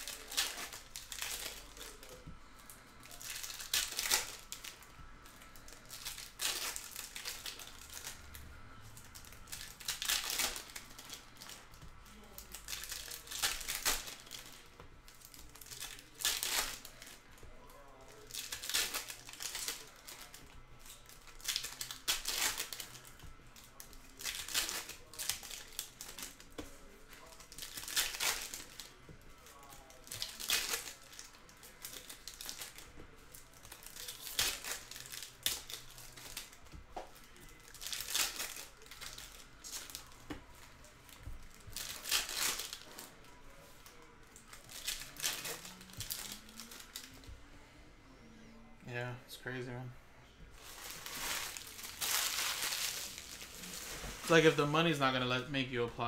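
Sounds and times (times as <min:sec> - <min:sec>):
card pack wrappers tearing: 0:00.0 - 0:02.2, 0:02.9 - 0:08.4, 0:09.0 - 0:40.7, 0:41.5 - 0:47.1, 0:50.6 - 0:55.4.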